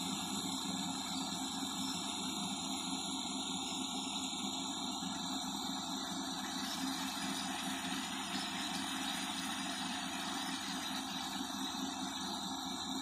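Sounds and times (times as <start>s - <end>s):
motor hum: 0.0s - 13.0s.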